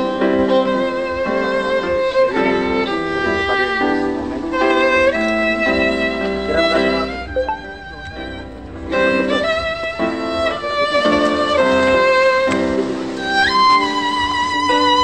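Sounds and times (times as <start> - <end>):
violin playing held notes: 0.0 - 15.0.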